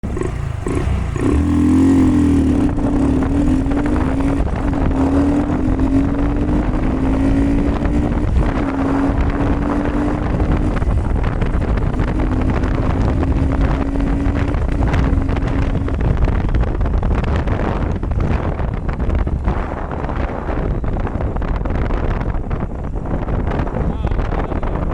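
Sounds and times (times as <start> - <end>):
motorbike engine running: 0.0 - 24.9
wind rumble on microphone: 0.0 - 24.9.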